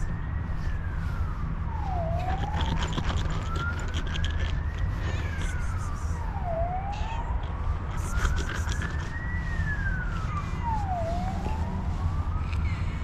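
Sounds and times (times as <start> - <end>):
emergency siren wailing: 0.0 - 13.0.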